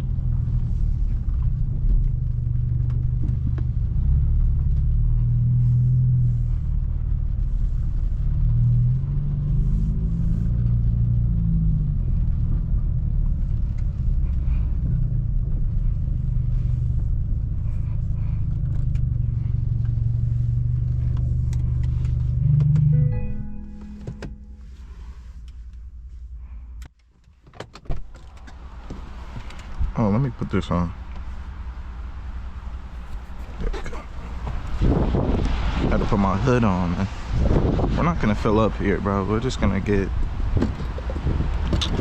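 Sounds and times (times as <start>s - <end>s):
car engine exhaust drone: 0.0s - 27.1s, 28.1s - 42.0s.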